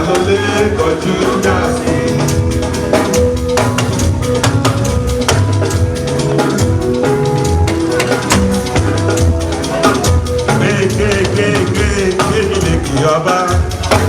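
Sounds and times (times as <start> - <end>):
instrumental music with drum beat: 0.0 - 14.0.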